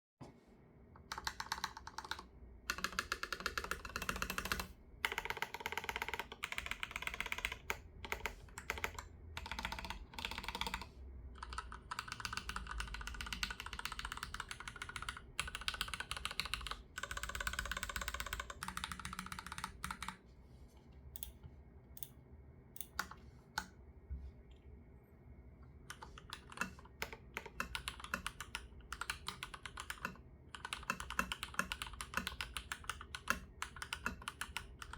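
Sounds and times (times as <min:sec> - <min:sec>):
mechanical keyboard typing: 0:01.0 - 0:20.2, 0:25.9 - 0:34.9.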